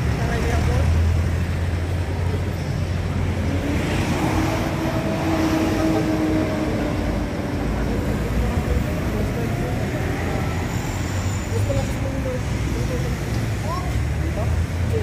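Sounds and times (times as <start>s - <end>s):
steady engine hum: 0.0s - 15.0s
vehicles passing: 0.0s - 15.0s.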